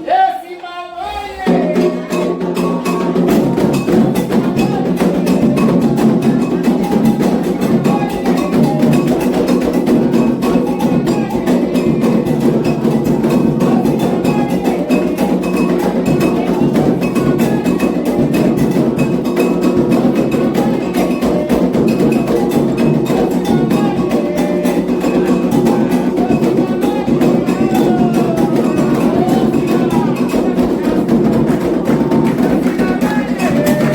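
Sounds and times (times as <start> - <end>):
hand drums playing: 1.1 - 33.9.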